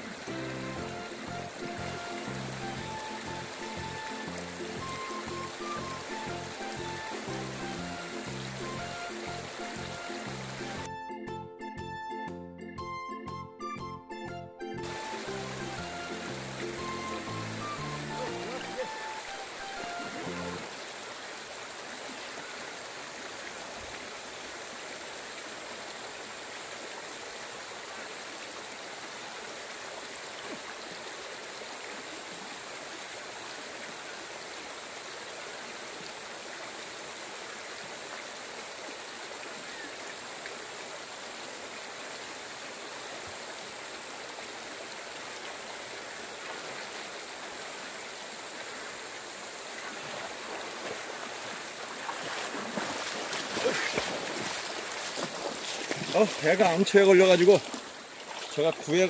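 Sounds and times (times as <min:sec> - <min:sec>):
shallow river water flowing: 0:00.0 - 0:10.9, 0:14.8 - 0:59.0.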